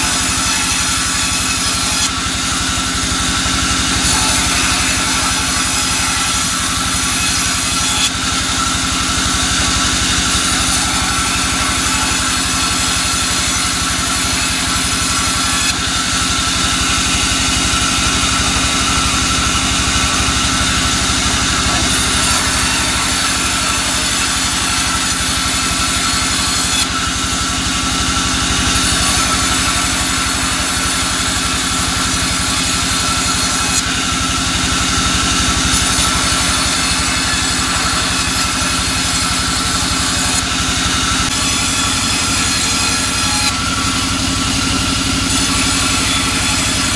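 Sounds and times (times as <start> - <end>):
bandsaw cutting wood: 0.0 - 46.9.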